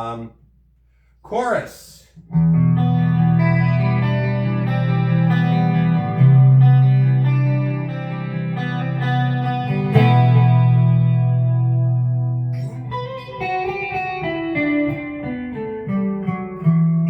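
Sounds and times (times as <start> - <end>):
electric guitar chords and notes: 2.2 - 17.0.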